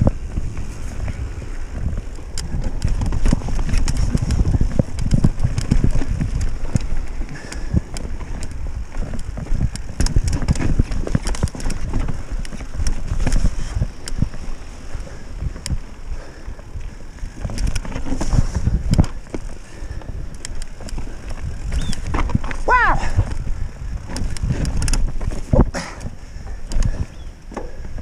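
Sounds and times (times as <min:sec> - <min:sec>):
bike knocking and clattering: 0:00.0 - 0:28.0
bike tyres rumbling over rock: 0:00.0 - 0:28.0.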